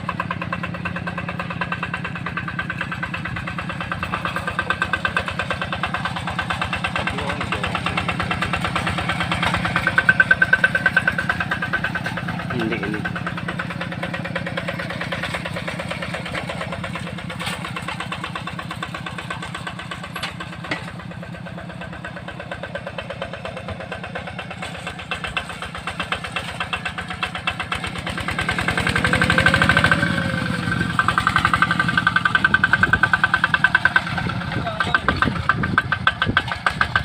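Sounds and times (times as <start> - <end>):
tractor diesel engine chugging: 0.0 - 37.0.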